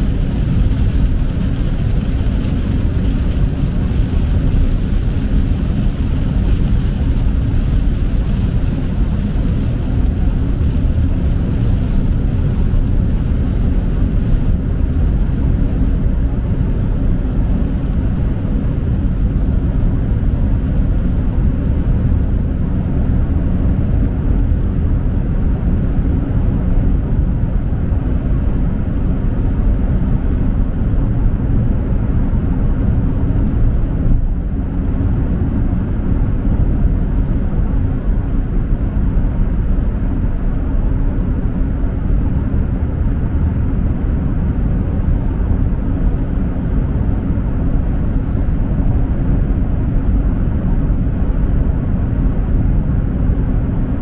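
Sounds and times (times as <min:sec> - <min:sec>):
tyre and road noise: 0:00.0 - 0:52.7.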